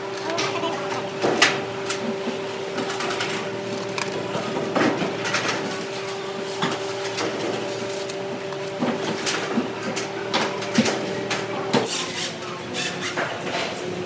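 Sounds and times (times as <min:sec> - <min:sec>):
steady machine hum: 0:00.0 - 0:11.9.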